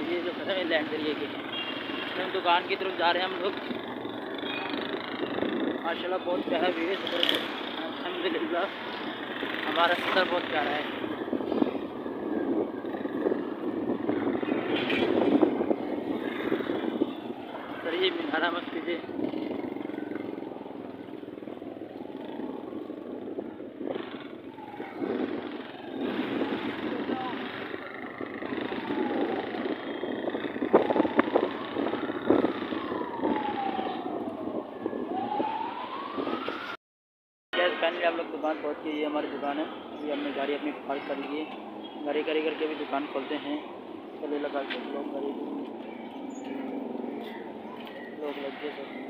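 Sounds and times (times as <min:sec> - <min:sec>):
street traffic noise: 0:00.0 - 0:36.8, 0:37.6 - 0:49.0
vehicle engine and road noise: 0:00.0 - 0:36.8, 0:37.6 - 0:49.0
emergency siren wailing: 0:00.2 - 0:36.8, 0:37.6 - 0:49.0.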